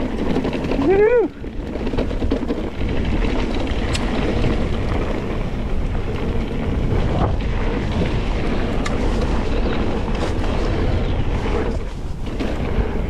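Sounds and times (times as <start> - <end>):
bike clattering over trail: 0.0 - 13.0
tyres rumbling on dirt: 0.0 - 13.0
wind on microphone: 0.0 - 13.0.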